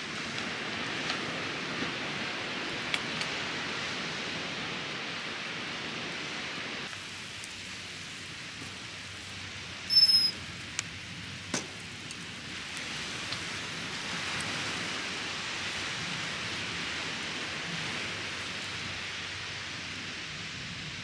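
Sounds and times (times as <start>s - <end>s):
falling water hiss: 0.0s - 21.0s.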